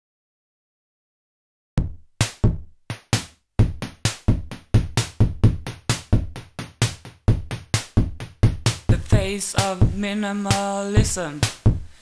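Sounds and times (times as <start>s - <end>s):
drum machine beat: 1.8s - 12.0s.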